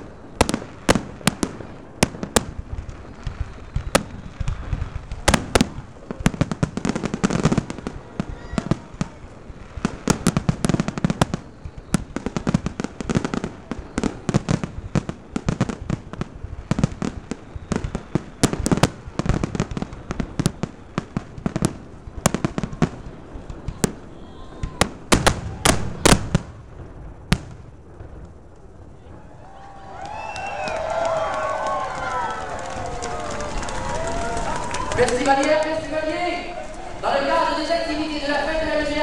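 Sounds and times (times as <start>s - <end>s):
fireworks bangs and cracks: 0.0s - 39.0s.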